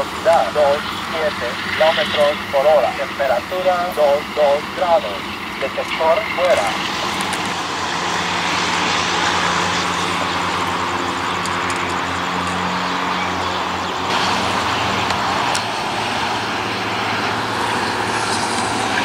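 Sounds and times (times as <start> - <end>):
diesel locomotive hum: 0.0 - 19.0.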